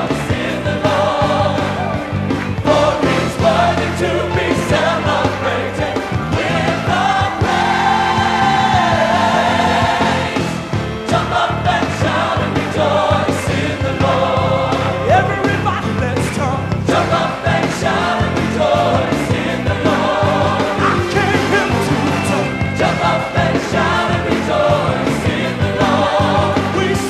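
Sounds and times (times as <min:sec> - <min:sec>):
gospel choir singing: 0:00.0 - 0:15.6, 0:16.8 - 0:27.0
band with steady bass beat: 0:00.0 - 0:27.0.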